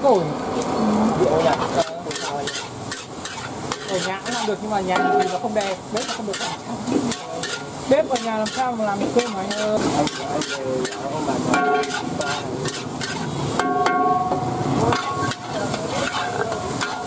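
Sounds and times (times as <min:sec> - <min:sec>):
food sizzling: 0:00.0 - 0:17.0
metal spatula scraping a wok: 0:01.3 - 0:17.0.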